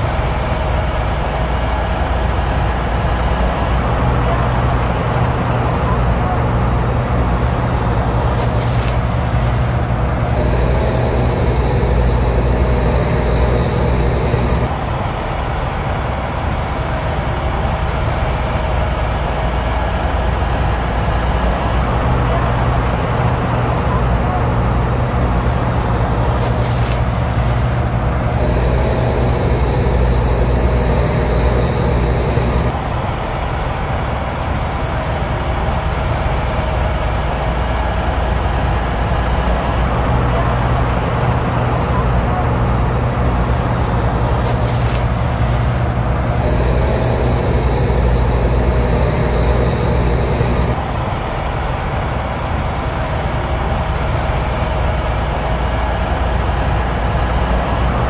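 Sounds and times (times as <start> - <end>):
excavator diesel engines running: 0.0 - 58.0.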